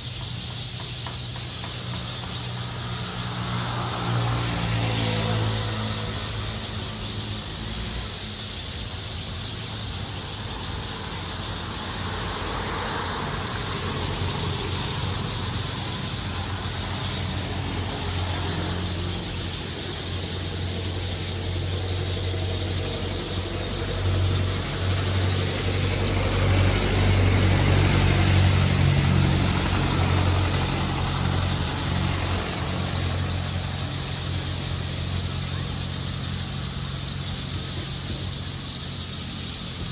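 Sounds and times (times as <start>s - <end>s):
vehicle engines with road noise: 0.0s - 39.9s.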